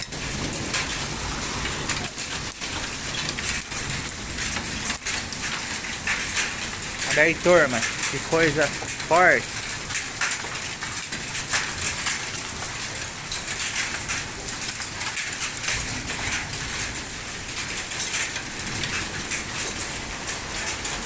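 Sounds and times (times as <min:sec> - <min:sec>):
hail and rain falling: 0:00.0 - 0:21.0.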